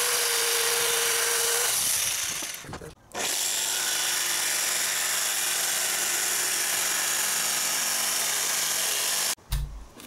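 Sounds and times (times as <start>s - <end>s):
electric jigsaw cutting plywood: 0.0s - 9.4s.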